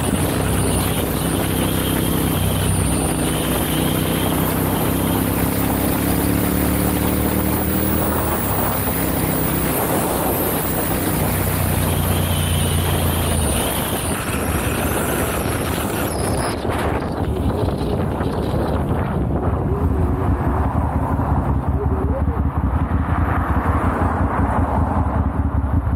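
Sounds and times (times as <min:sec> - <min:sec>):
motorcycle engine running: 0:00.0 - 0:25.9
wind and road noise: 0:00.0 - 0:25.9.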